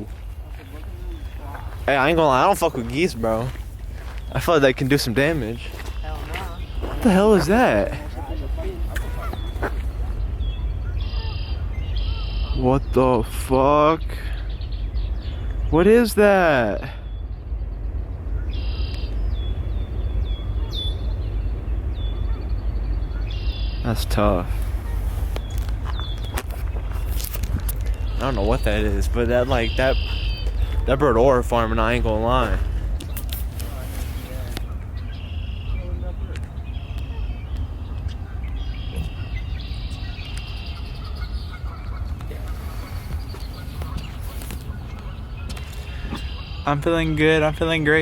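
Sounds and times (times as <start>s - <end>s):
wind buffeting microphone: 0.0s - 16.5s, 17.2s - 48.0s
bird calling: 0.0s - 17.3s, 18.2s - 48.0s
steady low rumble: 0.0s - 48.0s.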